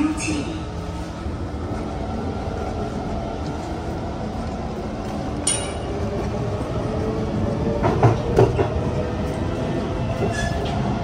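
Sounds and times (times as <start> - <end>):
train car low rumble: 0.0 - 11.0.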